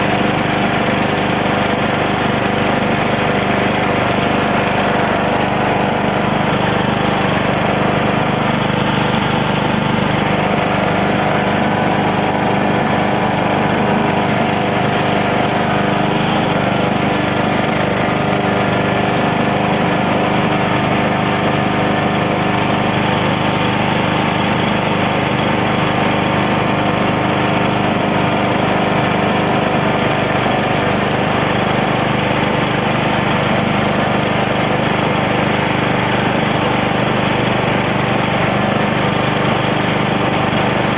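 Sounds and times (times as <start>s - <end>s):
lawn tractor engine running: 0.0s - 40.9s.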